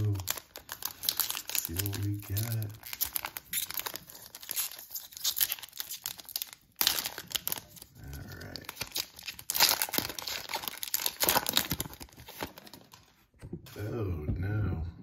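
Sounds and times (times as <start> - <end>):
foil wrapper crinkling and tearing: 0.0 - 13.2.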